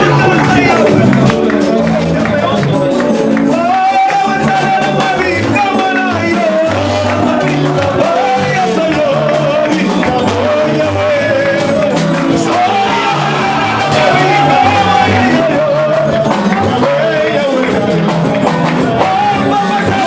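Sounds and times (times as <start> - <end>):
live worship music with singing: 0.0 - 20.0
percussion: 0.0 - 20.0
repeating bass line: 0.0 - 20.0.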